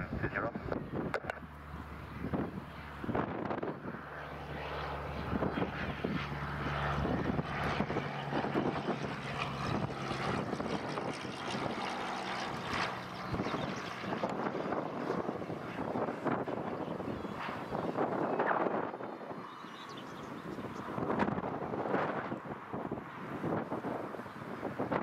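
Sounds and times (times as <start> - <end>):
propeller aircraft droning: 0.0 - 25.0.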